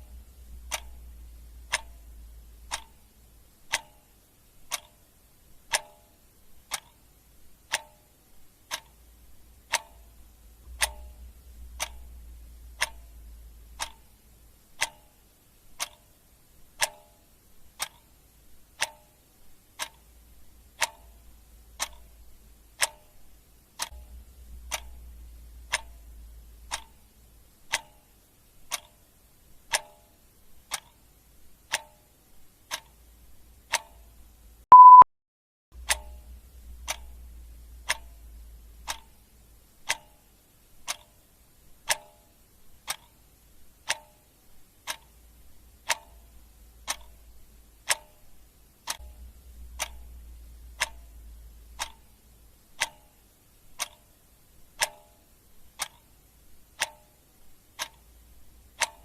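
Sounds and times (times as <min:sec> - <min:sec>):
clock ticking: 0:00.0 - 0:35.0, 0:35.8 - 0:59.0
faint low hum: 0:00.0 - 0:35.0, 0:35.8 - 0:59.0.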